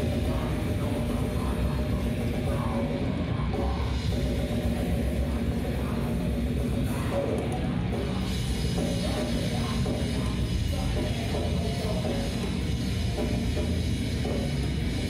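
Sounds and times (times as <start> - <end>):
bass guitar: 0.0 - 15.0
distorted guitars: 0.0 - 15.0
drums: 0.0 - 15.0.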